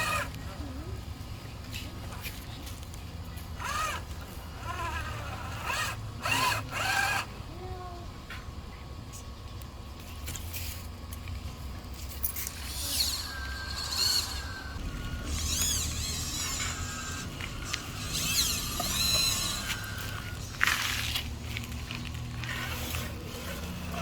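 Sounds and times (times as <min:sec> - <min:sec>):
small electric motors whining: 0:00.0 - 0:24.0
low hum: 0:03.1 - 0:24.0.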